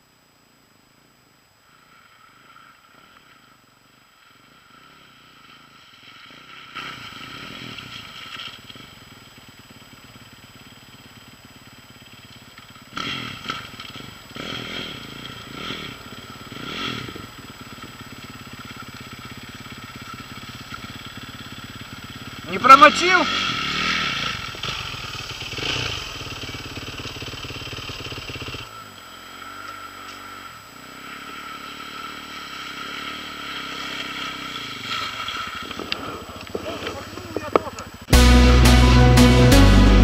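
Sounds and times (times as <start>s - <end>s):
dirt bike engine revving: 4.6s - 11.7s, 12.8s - 40.0s.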